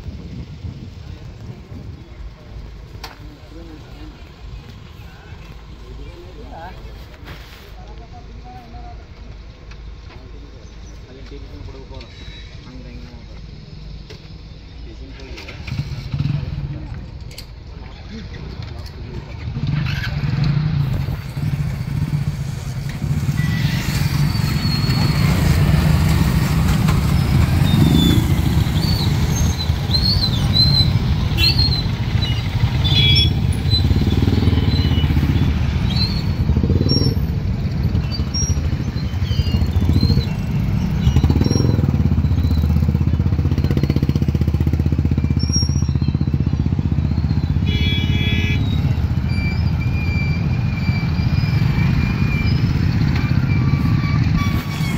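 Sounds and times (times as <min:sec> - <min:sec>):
motorcycle engines droning: 0:00.0 - 0:54.9.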